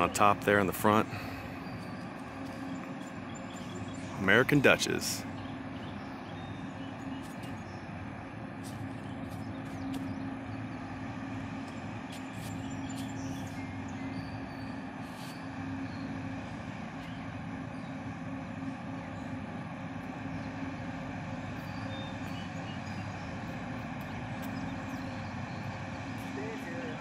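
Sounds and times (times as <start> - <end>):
boat engine drone: 0.0 - 27.0.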